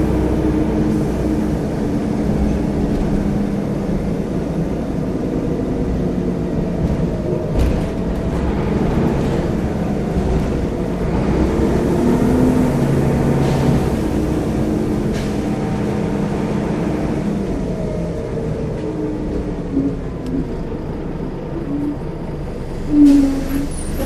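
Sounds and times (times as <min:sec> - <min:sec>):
bus diesel engine droning: 0:00.0 - 0:24.0
road noise: 0:00.0 - 0:24.0.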